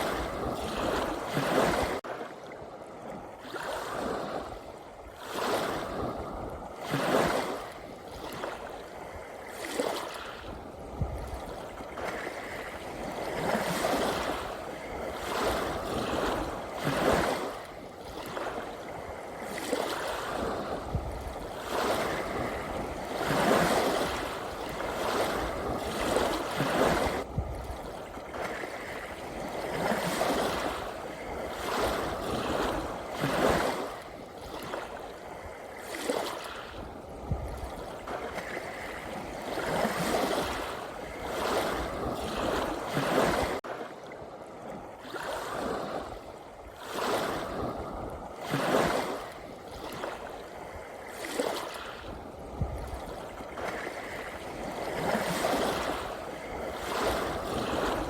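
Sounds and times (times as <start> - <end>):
ocean waves splashing: 0.0 - 58.0.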